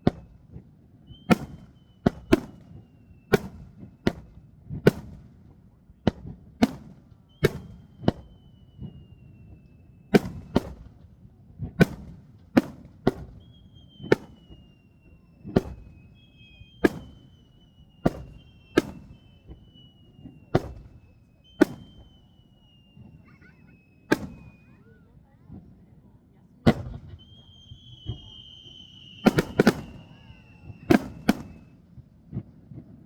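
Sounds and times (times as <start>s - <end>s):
fireworks whistling: 0.0s - 11.1s, 11.7s - 25.7s, 26.7s - 32.9s
fireworks bangs: 0.0s - 25.6s, 26.6s - 33.0s.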